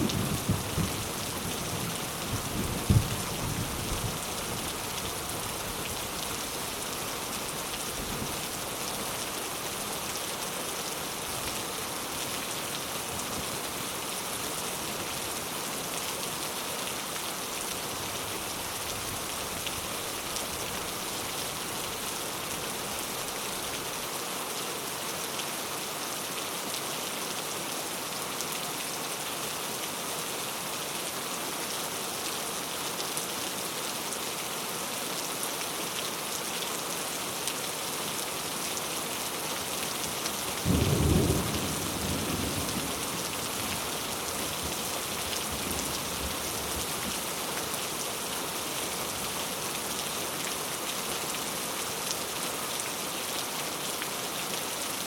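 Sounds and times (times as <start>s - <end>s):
steady rain on a surface: 0.0s - 55.0s.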